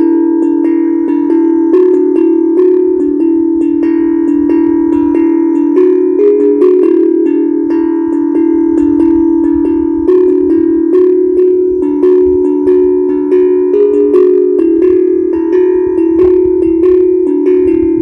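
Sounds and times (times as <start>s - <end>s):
steel tongue drum notes: 0.0s - 18.0s.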